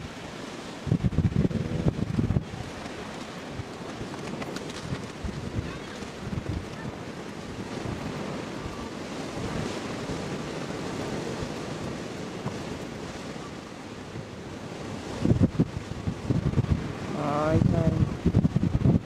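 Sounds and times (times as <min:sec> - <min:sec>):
sea surf: 0:00.0 - 0:19.0
wind blowing across microphone: 0:00.0 - 0:19.0.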